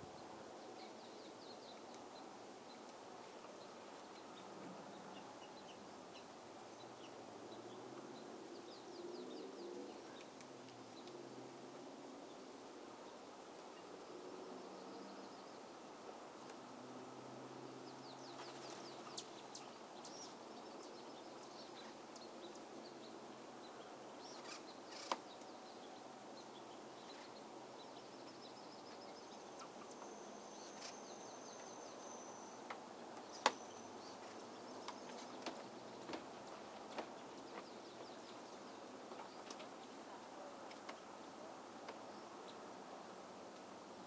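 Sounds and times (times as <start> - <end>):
small birds chirping: 0.0 - 11.2, 17.5 - 43.7
outdoor background noise: 0.0 - 44.0.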